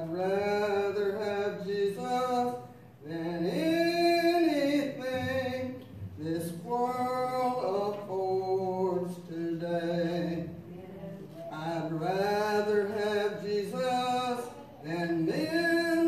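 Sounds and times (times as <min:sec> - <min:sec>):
person singing gospel song: 0:00.0 - 0:16.0.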